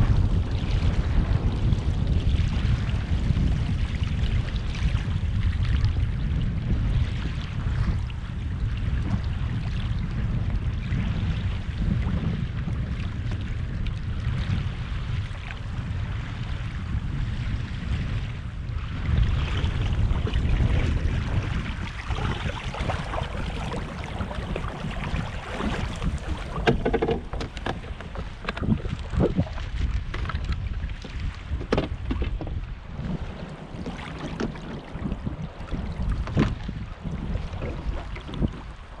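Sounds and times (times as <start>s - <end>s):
water splashing along hull: 0.0s - 39.0s
wind buffeting microphone: 0.0s - 39.0s.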